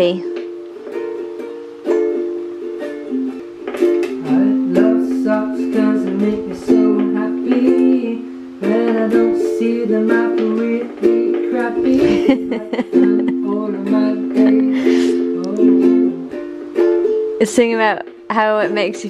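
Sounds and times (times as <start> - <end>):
ukulele strumming chords: 0.0 - 19.0.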